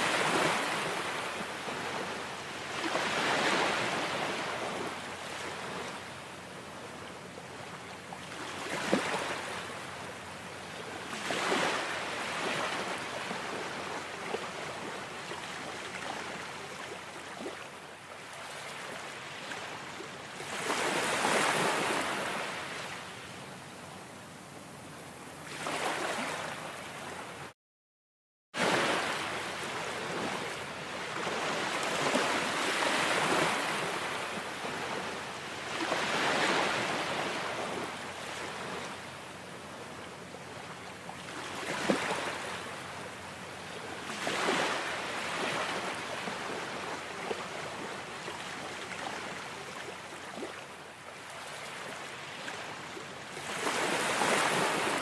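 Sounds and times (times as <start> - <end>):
ocean waves on shore: 0.0 - 27.6, 28.6 - 55.0.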